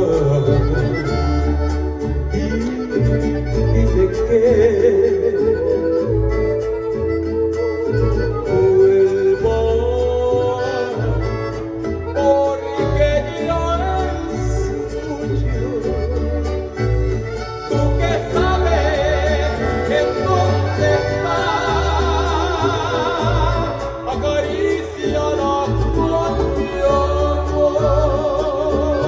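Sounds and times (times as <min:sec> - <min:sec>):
mariachi music: 0:00.0 - 0:29.0.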